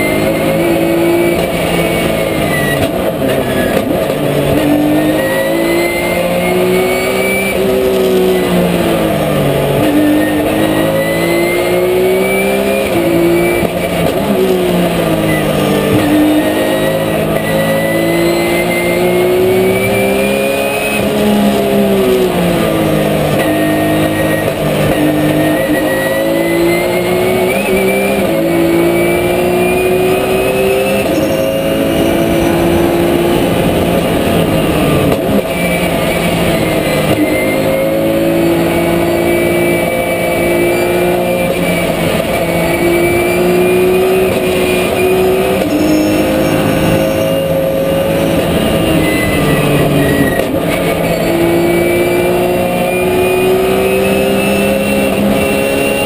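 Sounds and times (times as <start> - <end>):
racing car engine revving: 0.0 - 56.0.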